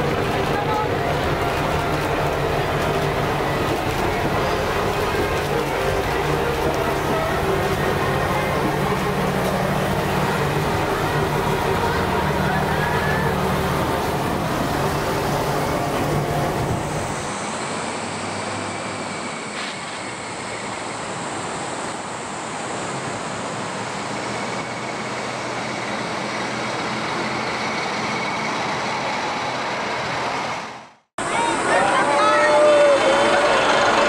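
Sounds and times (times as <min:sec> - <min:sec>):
diesel railcar engine running: 0:00.0 - 0:34.0
diesel train crossing steel bridge: 0:00.0 - 0:34.0.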